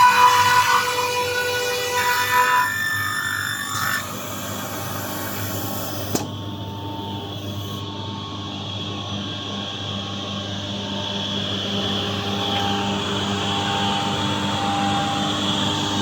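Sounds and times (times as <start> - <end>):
high whine of cutters: 0.0 - 16.0.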